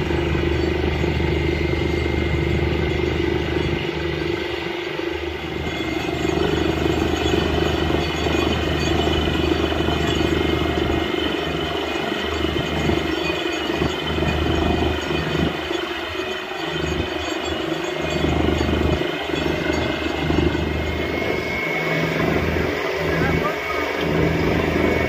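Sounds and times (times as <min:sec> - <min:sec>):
drilling rig droning: 0:00.0 - 0:25.0.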